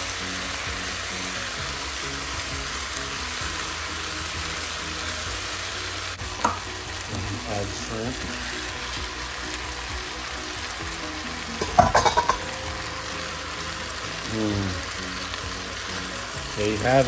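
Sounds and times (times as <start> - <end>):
noodles sizzling in a wok: 0.0 - 17.0.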